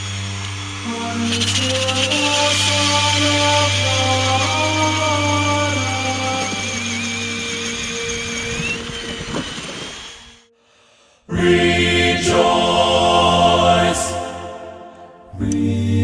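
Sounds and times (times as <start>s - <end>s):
choir-like background music: 0.0s - 9.3s, 11.3s - 16.0s.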